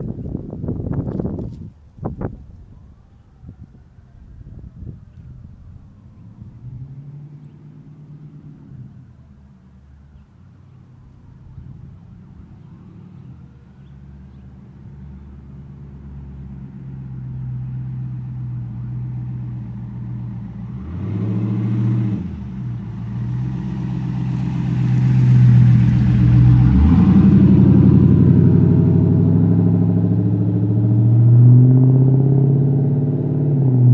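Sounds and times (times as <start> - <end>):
v eight car exhaust: 4.4 - 33.9.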